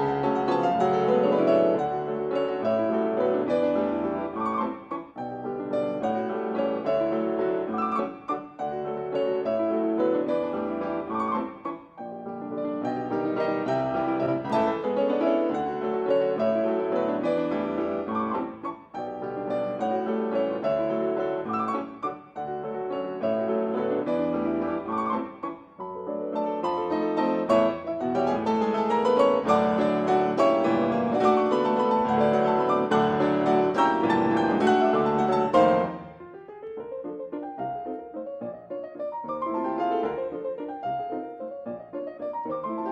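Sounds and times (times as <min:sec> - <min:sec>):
solo classical piano: 0:00.0 - 0:42.9.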